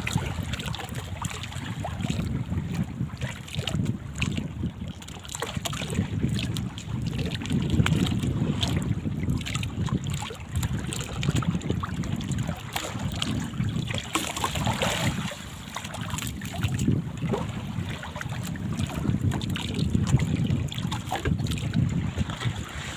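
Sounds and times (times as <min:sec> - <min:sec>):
sea water splashing: 0:00.0 - 0:22.9
wind buffeting microphone: 0:00.0 - 0:22.9.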